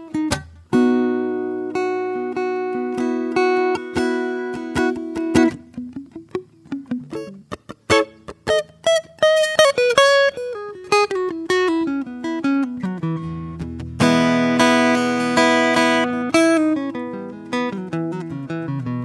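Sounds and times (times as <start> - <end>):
acoustic guitar chord strummed: 0.0 - 19.0
acoustic guitar plucked notes: 0.0 - 19.0.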